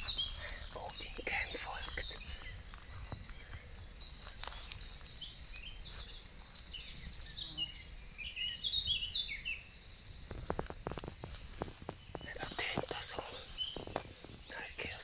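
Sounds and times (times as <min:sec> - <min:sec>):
small birds chirping and trilling: 0:00.0 - 0:15.0.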